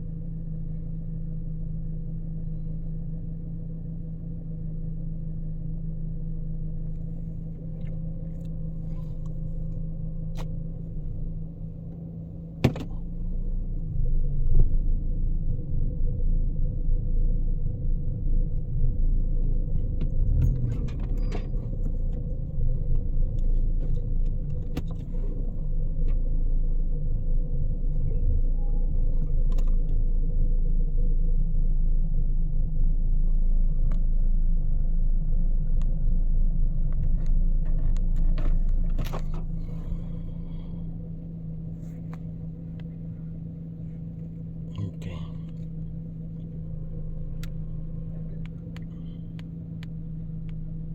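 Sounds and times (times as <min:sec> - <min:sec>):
car engine uneven rumble: 0:00.0 - 0:50.9.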